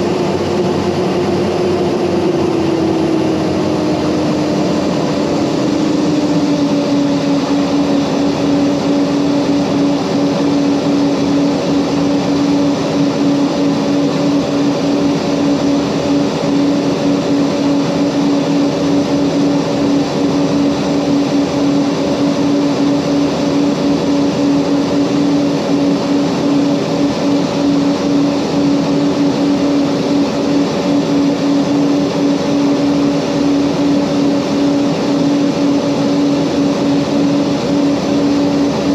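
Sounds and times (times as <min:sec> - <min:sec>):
turboprop engines droning: 0:00.0 - 0:38.9.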